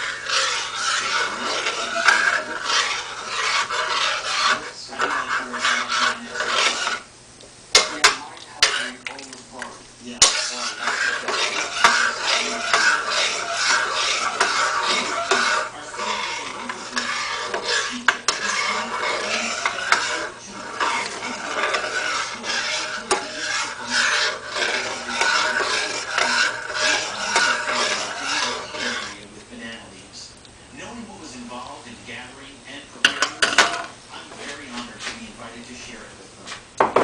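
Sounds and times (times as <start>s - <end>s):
metal spoon stirring in saucepan: 0.0s - 7.1s, 7.7s - 29.8s, 33.0s - 34.9s.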